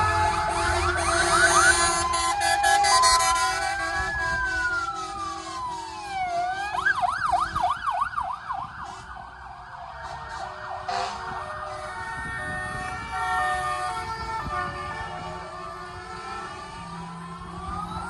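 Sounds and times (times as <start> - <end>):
fire vehicle sirens: 0.0 - 18.0.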